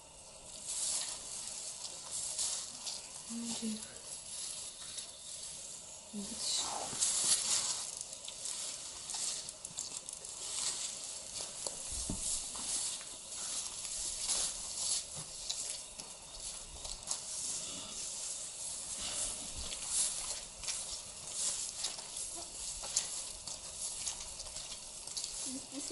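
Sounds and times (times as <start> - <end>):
rustling through undergrowth: 0.0 - 25.9.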